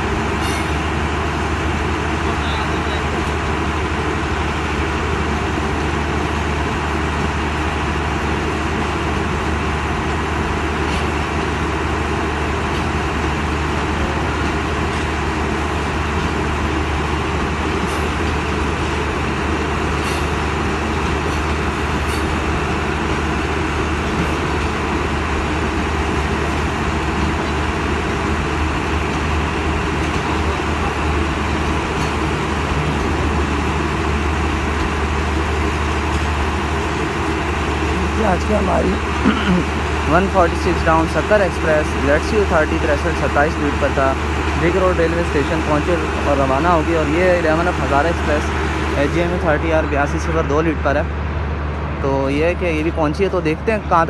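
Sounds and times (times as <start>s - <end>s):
diesel locomotive engine rumbling: 0.0s - 54.0s.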